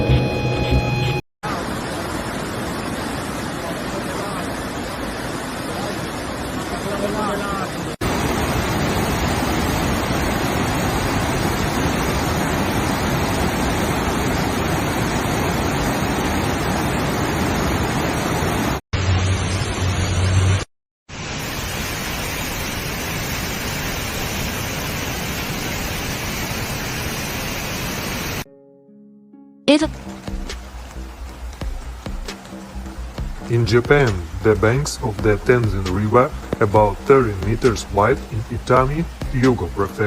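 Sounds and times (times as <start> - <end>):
loud rush of water: 1.4 - 28.4, 29.9 - 40.0.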